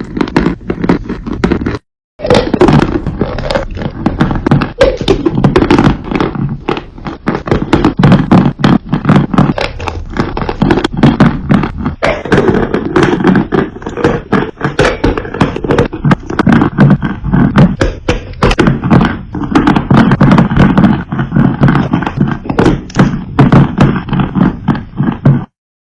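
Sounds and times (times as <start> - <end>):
clay crunching by hand: 0.0 - 25.6.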